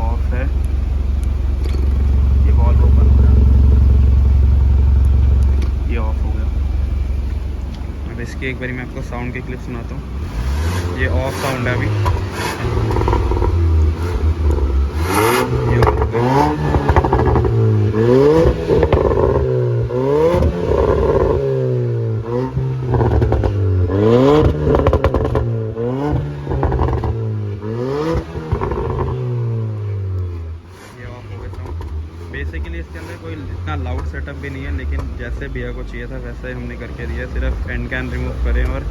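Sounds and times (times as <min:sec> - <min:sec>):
exhaust crackles and pops: 0:00.0 - 0:09.4, 0:10.3 - 0:36.0
car engine revving in blips: 0:00.0 - 0:38.9.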